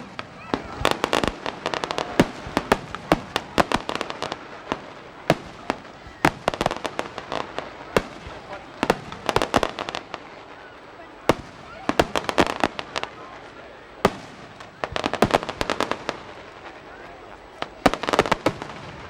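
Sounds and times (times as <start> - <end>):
fireworks bangs and crackling pops: 0.0 - 19.0.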